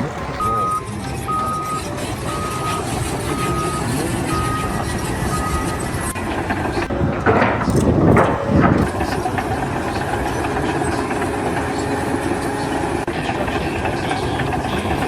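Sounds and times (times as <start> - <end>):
heavy engine rumbling: 0.0 - 15.0.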